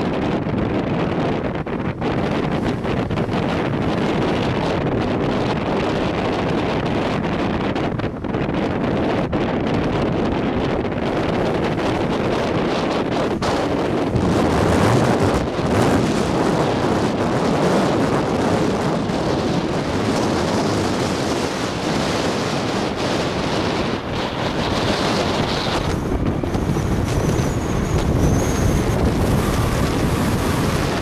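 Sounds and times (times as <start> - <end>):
jet engine noise: 0.0 - 31.0
wind buffeting microphone: 0.0 - 31.0.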